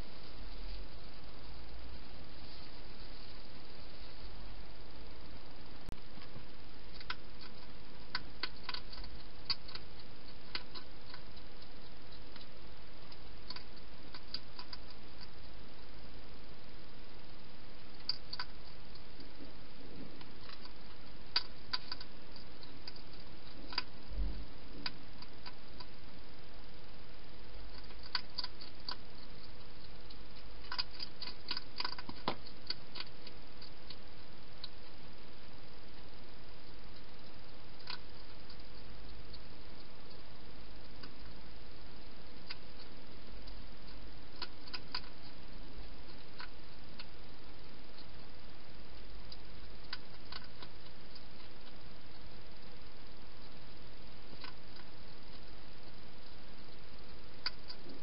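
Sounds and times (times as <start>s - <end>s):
steady hiss: 0.0s - 58.0s
hedgehog crunching food: 6.2s - 16.2s, 17.4s - 26.4s, 27.2s - 35.2s, 35.9s - 58.0s.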